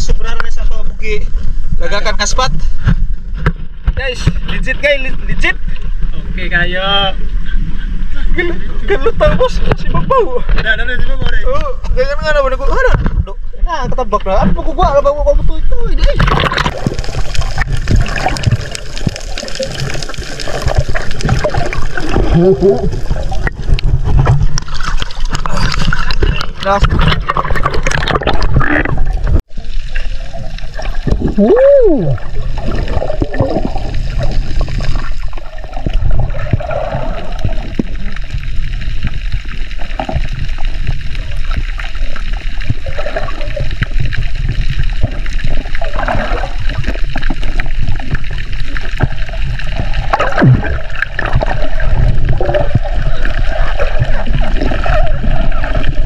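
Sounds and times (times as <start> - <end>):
water sloshing and bubbling: 0.0 - 12.0, 12.6 - 56.0
low rumble: 0.0 - 56.0.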